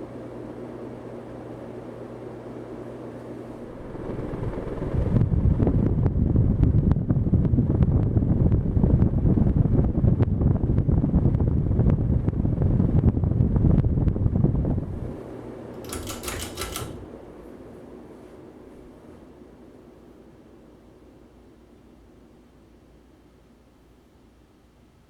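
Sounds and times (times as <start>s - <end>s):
ceiling fan running: 0.0s - 25.0s.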